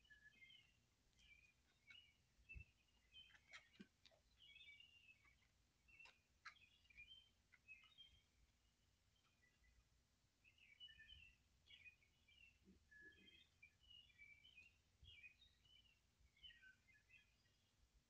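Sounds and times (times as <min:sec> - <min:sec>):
faint birdsong chirping: 0:00.0 - 0:18.0.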